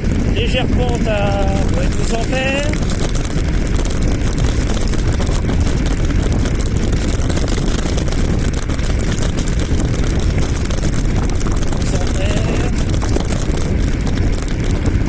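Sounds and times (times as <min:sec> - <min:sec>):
scooter road rumble: 0:00.0 - 0:15.0
wind buffeting microphone: 0:00.0 - 0:15.0.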